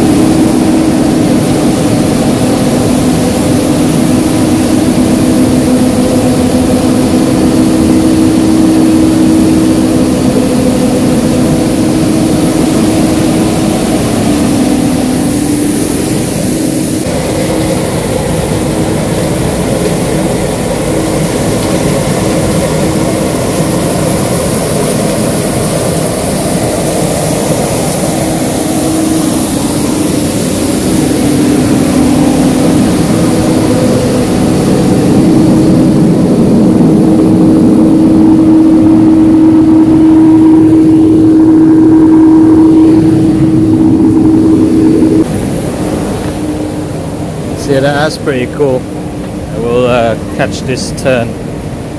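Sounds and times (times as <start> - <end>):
street sweeper engine and suction: 0.0 - 51.9.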